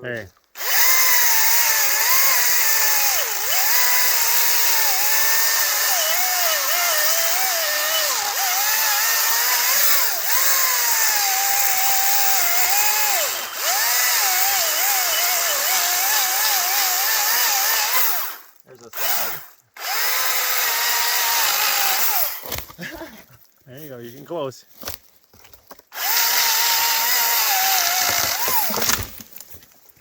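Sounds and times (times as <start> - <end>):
electric chainsaw cutting wood: 0.6 - 22.6, 25.9 - 29.2.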